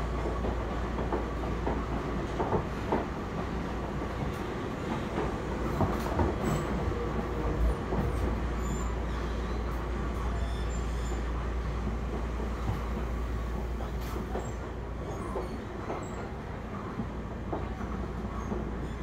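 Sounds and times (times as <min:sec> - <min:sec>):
train interior rumble and rattle: 0:00.0 - 0:19.0.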